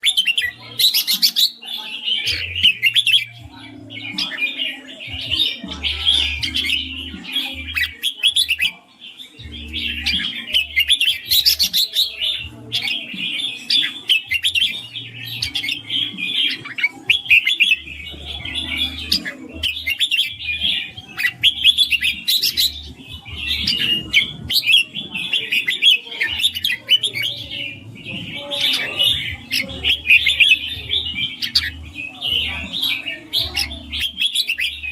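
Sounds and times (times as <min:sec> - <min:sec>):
bulbul singing chirping phrases: 0:00.0 - 0:34.9.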